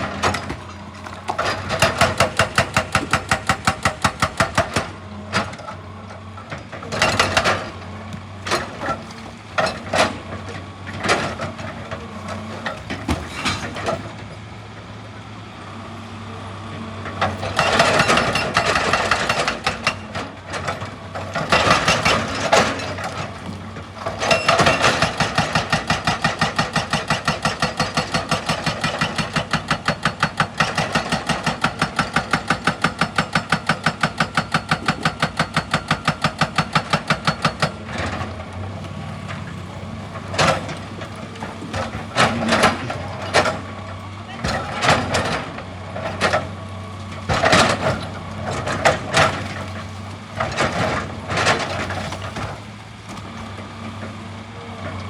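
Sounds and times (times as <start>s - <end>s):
hydraulic breaker hammering rock: 0.0s - 14.3s, 17.1s - 43.7s, 44.3s - 54.3s
excavator engine running: 0.0s - 55.0s.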